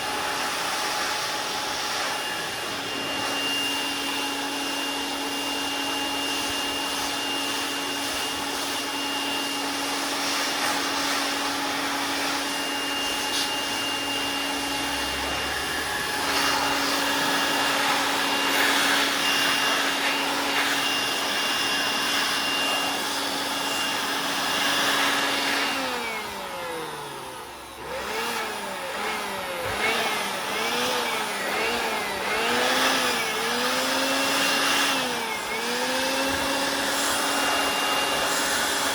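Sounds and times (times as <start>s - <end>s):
electric blower motor whining: 0.0s - 38.9s.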